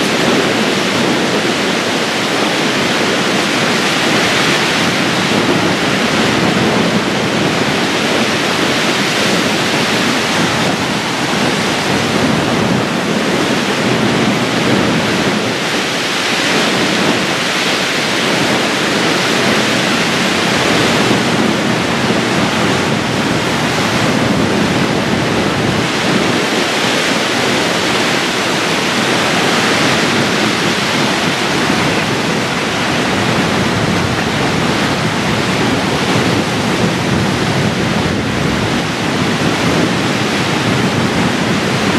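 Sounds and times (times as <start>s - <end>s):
strong gusting wind: 0.0s - 41.9s
waves washing against rocks: 0.0s - 41.9s.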